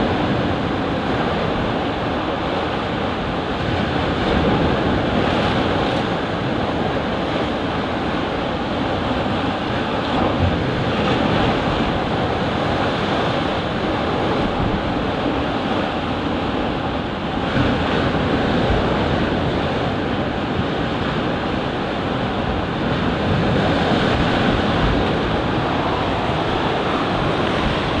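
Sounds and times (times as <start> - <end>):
waves splashing over concrete: 0.0 - 28.0
wind buffeting microphone: 0.0 - 28.0.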